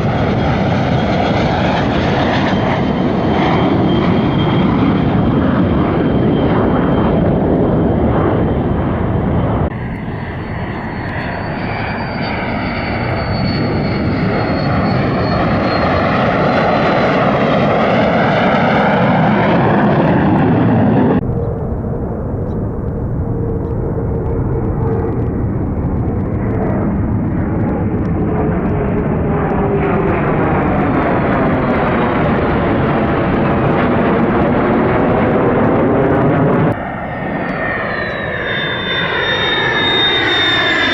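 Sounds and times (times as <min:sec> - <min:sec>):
jet engine flyby: 0:00.0 - 0:40.9.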